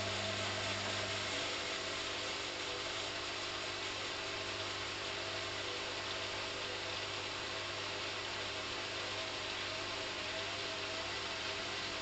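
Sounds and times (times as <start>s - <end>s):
constant hiss: 0.0s - 12.0s
washing machine motor hum: 0.0s - 12.0s.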